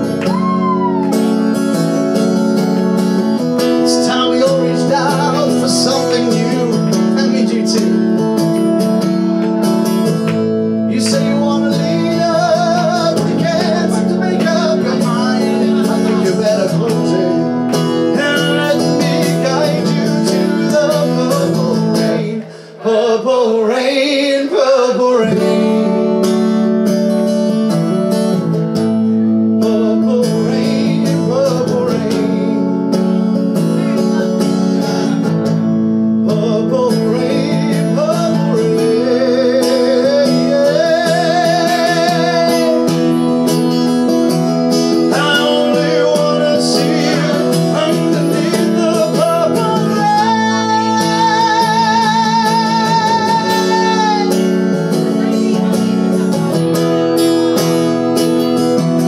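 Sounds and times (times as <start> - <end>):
man singing wordlessly with vibrato: 0.0 - 26.7, 29.4 - 56.7
acoustic guitar strumming: 0.0 - 59.0.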